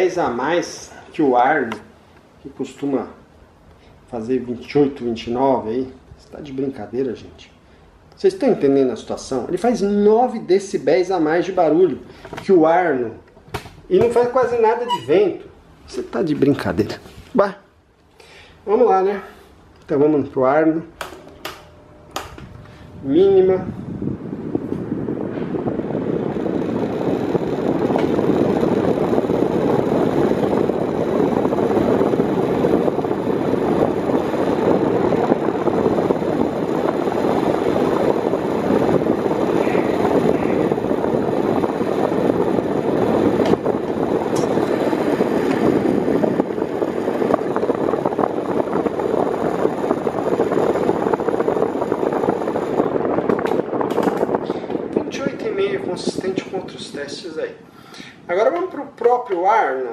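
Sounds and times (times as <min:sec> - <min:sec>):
electric fan rushing air: 0:00.0 - 0:59.9.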